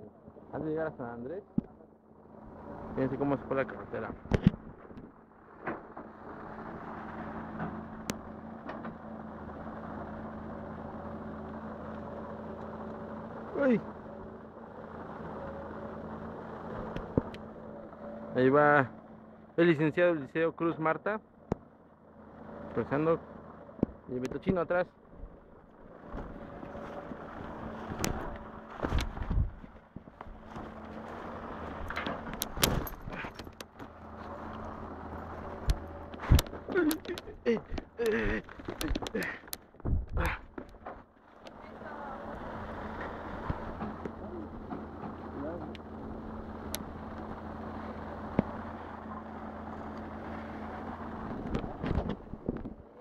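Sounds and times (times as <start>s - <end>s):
engine humming: 0.0s - 53.0s.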